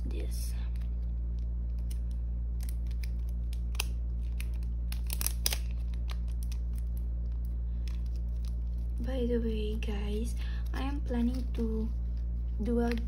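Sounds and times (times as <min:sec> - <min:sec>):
steady low hum: 0:00.0 - 0:13.0
plastic sleeve crinkling: 0:00.6 - 0:13.0.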